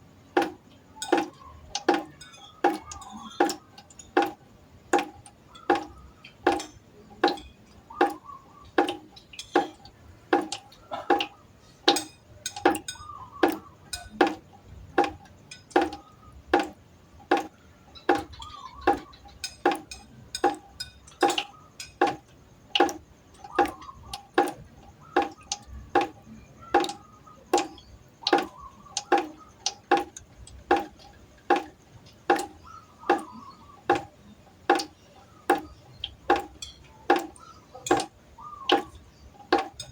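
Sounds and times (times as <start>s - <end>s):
water droplets plinking on a pot: 0.0s - 39.9s.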